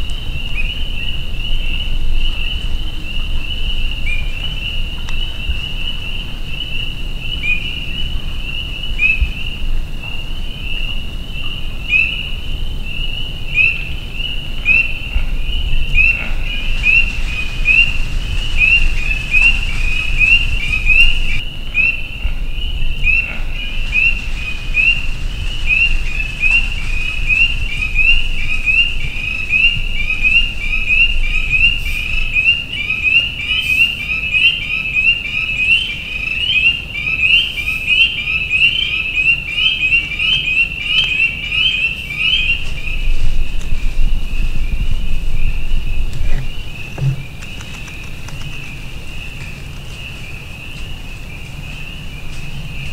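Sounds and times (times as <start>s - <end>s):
frogs calling: 0.0s - 52.9s.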